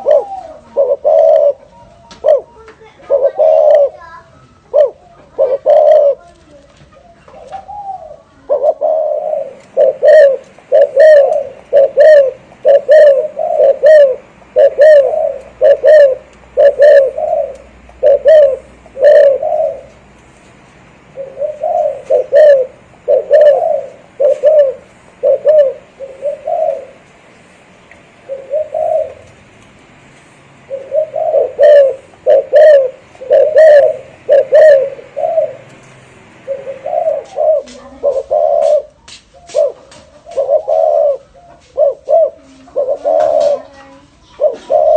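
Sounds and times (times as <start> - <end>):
dove cooing: 0.0 - 20.1, 21.0 - 27.3, 28.1 - 29.6, 30.6 - 44.9.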